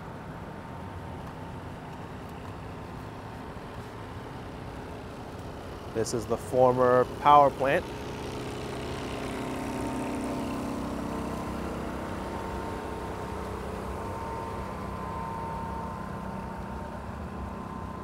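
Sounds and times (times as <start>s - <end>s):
low hum: 0.0s - 18.0s
traffic drone: 0.0s - 18.0s.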